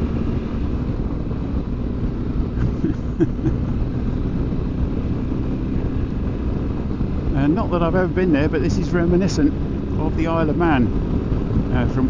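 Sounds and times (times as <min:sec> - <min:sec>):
motorcycle engine running: 0:00.0 - 0:12.0
road rumble: 0:00.0 - 0:12.0
wind: 0:00.0 - 0:12.0.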